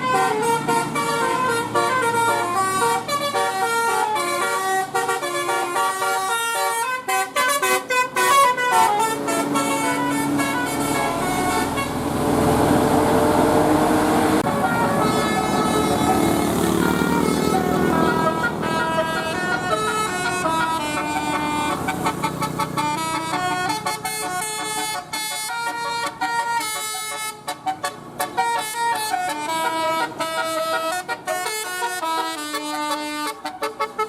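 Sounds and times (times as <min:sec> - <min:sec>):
low vehicle rumble: 0:00.0 - 0:33.8
musical bus horn melody: 0:00.0 - 0:34.0.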